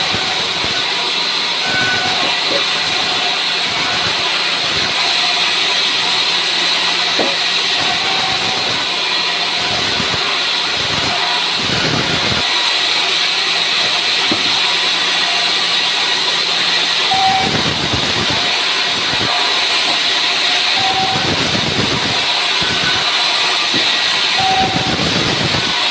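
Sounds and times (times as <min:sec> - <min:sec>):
sawmill saw cutting wood: 0:00.0 - 0:25.9.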